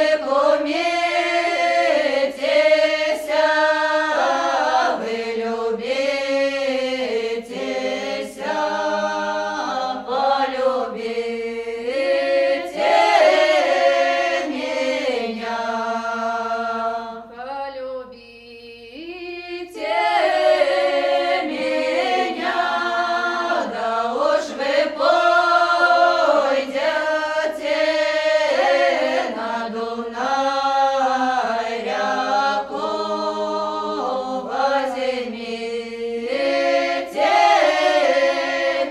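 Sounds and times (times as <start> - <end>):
choir singing unaccompanied: 0.0 - 17.4, 18.6 - 38.9.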